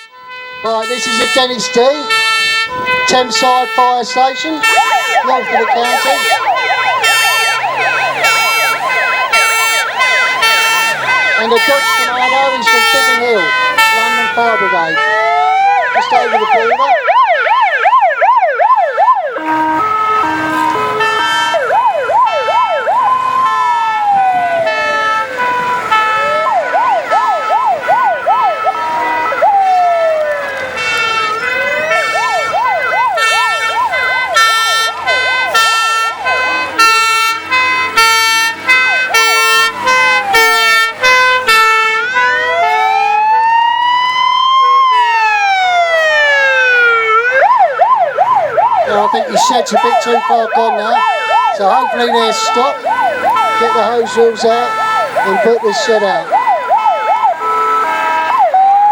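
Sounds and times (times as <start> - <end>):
fire engine siren wailing and yelping: 0.0 - 58.9
two-tone horns alternating: 0.0 - 58.9.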